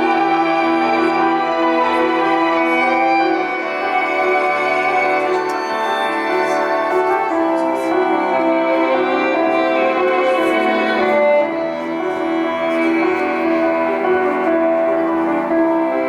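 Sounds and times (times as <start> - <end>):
instrumental music: 0.0 - 16.0.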